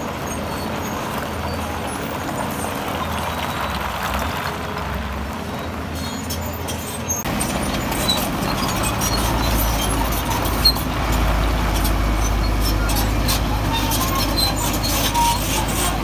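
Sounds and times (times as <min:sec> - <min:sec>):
heavy diesel machinery rumbling: 0:00.0 - 0:16.0.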